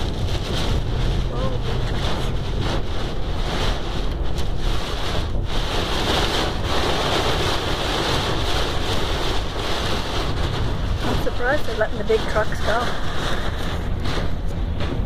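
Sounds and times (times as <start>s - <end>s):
heavy rain and wind on car: 0.0s - 15.0s
road noise: 0.0s - 15.0s.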